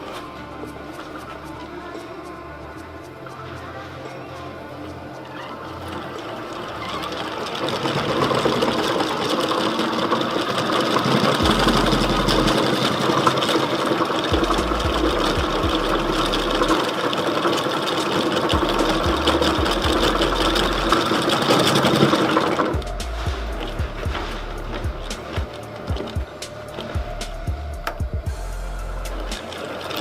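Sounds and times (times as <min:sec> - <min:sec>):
rapid fine clicking: 0:00.0 - 0:30.0.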